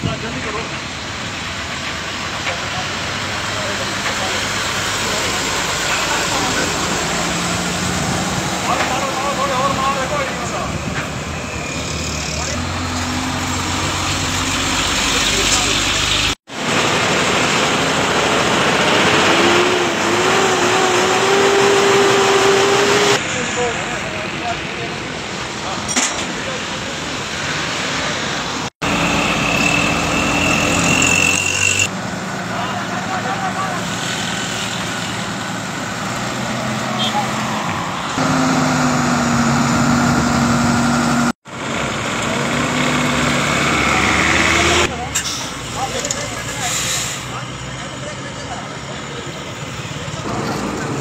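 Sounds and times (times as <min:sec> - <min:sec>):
road traffic rushing: 0:00.0 - 0:51.0
truck engine drone: 0:00.0 - 0:51.0.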